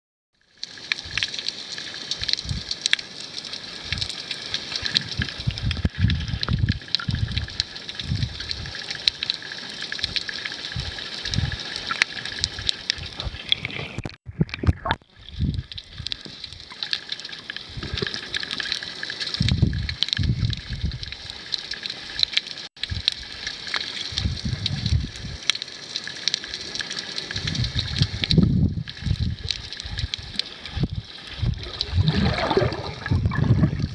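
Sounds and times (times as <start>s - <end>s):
fine crackle of tiny clicks: 0.4s - 31.8s
underwater sloshing and gurgling: 0.4s - 33.9s.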